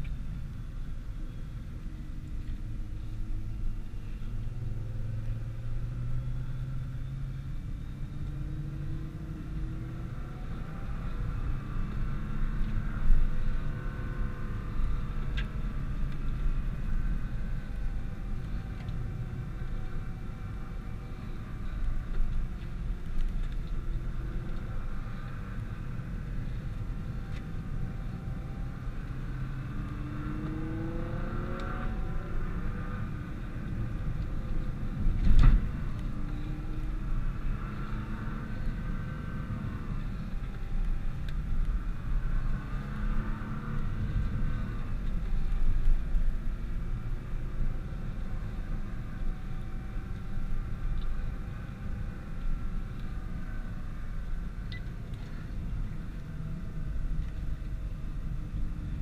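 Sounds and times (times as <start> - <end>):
road rumble: 0.0 - 59.0
car engine accelerating: 2.0 - 59.0.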